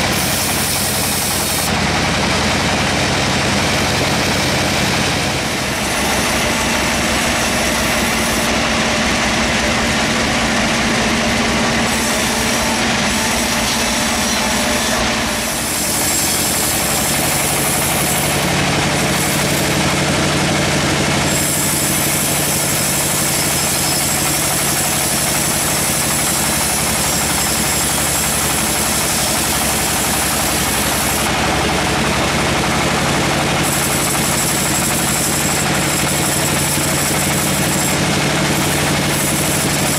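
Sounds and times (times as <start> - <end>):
saw blade hissing through wood: 0.0 - 9.9, 10.5 - 31.4, 32.5 - 39.9
sawmill machine hum: 0.0 - 39.9.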